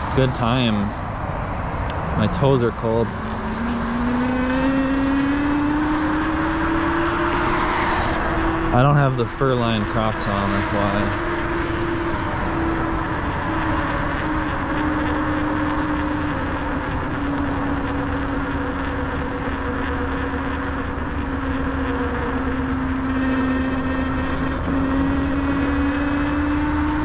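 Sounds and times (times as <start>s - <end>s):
wind and road noise: 0.0s - 27.0s
electric motor whining: 1.9s - 8.8s, 9.8s - 27.0s.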